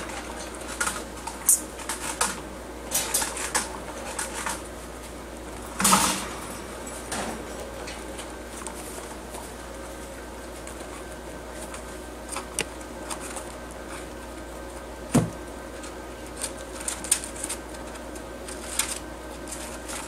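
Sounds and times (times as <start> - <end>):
small animals chewing and rustling: 0.0 - 20.0.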